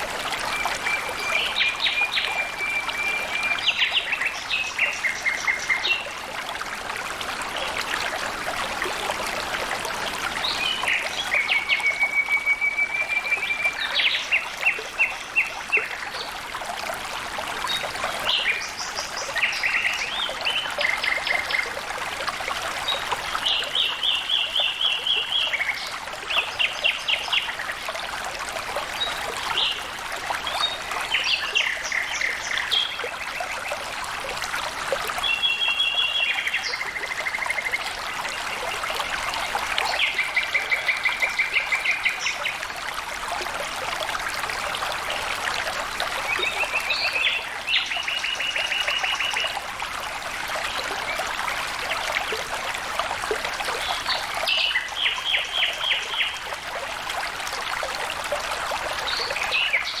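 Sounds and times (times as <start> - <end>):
stream trickling and splashing: 0.0 - 60.0.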